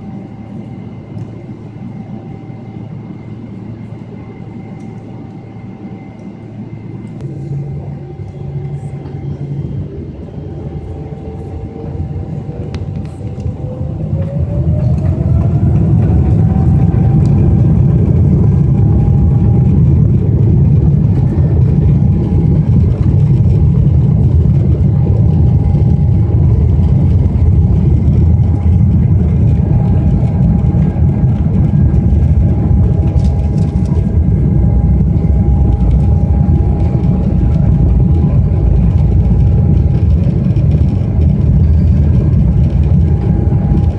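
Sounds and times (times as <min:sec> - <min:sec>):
jet engines spooling up: 0:00.1 - 0:43.9.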